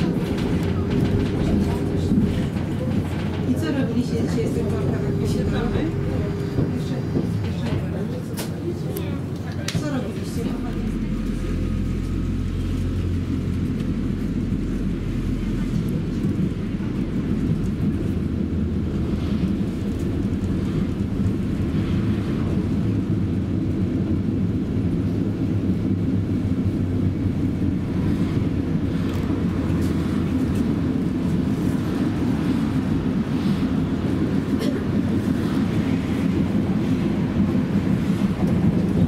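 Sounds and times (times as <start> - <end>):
low rumble of bus interior: 0.0 - 39.0.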